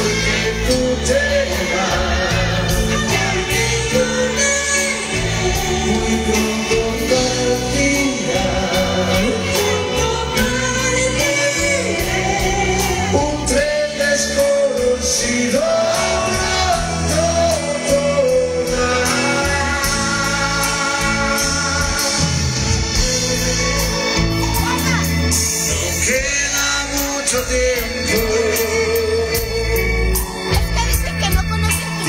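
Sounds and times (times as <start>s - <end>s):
person singing: 0.0s - 30.5s
bass: 0.0s - 32.0s
drums with cymbal beat: 0.0s - 32.0s
electric guitar: 0.0s - 32.0s
keyboard: 0.0s - 32.0s.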